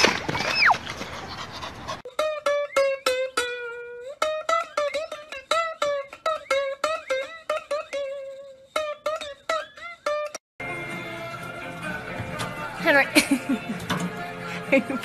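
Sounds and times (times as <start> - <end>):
plucked string melody: 2.1 - 15.0.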